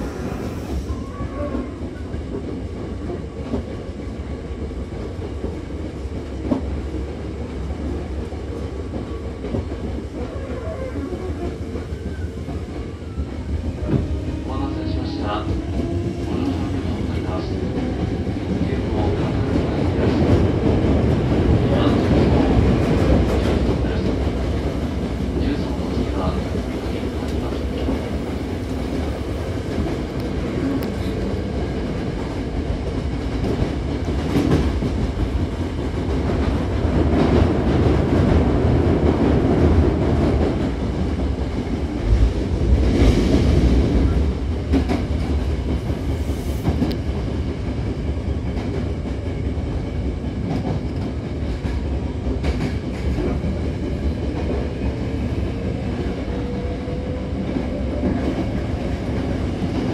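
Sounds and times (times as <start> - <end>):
train wheel and rail rumble: 0.0 - 59.9.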